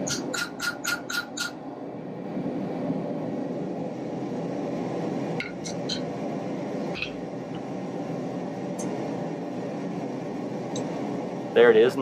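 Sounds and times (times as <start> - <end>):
forge burner rushing hum: 0.0 - 12.0.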